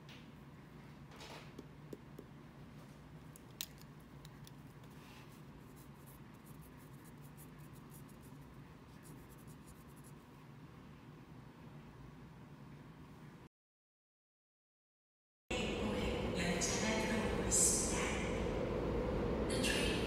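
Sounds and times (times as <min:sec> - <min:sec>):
steady low hum: 0:00.0 - 0:13.5, 0:15.5 - 0:20.0.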